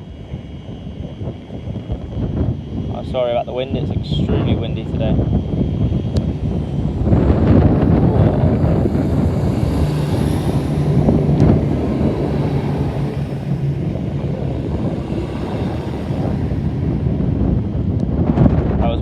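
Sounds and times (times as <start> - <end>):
diesel train engines humming: 0.0 - 18.8
wind buffeting microphone: 0.0 - 19.0.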